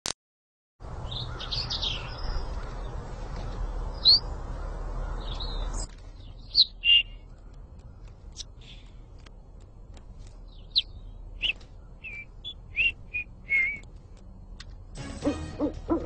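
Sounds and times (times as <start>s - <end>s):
low outdoor background: 0.8s - 16.0s
songbirds chirping: 0.8s - 16.0s.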